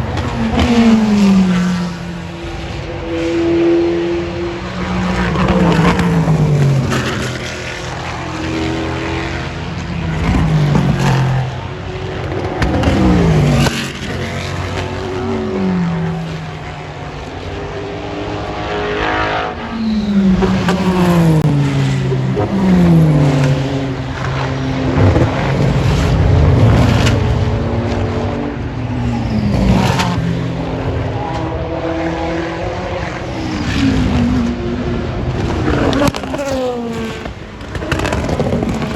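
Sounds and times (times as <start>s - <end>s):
race cars passing at speed: 0.0s - 38.9s.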